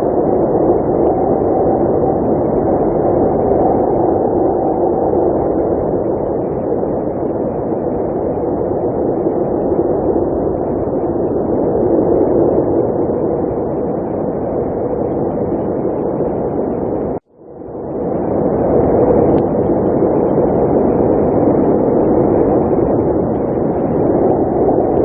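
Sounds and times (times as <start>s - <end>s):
blizzard wind rushing: 0.0s - 25.0s.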